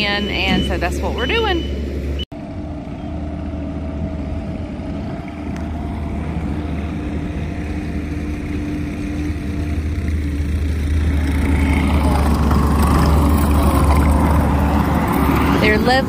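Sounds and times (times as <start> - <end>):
distant diesel engine rumbling: 0.0 - 16.0.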